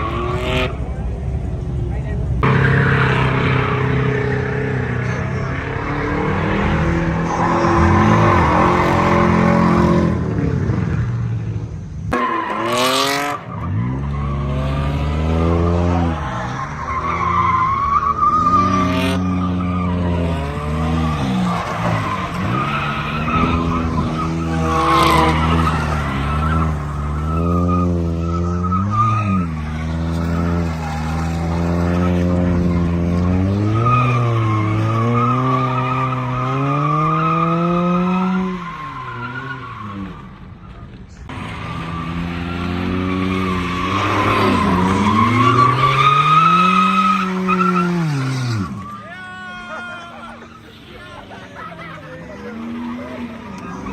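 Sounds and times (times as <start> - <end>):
tire squeal: 0.0 - 0.9, 2.4 - 11.4, 12.1 - 53.9
car engine revving: 0.0 - 49.0.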